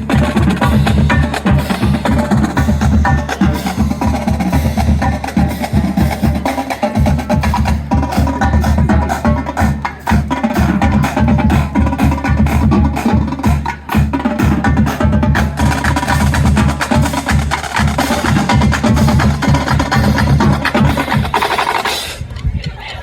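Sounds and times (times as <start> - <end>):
bass drums: 0.0 - 22.0
marching drumline cadence: 0.0 - 22.3.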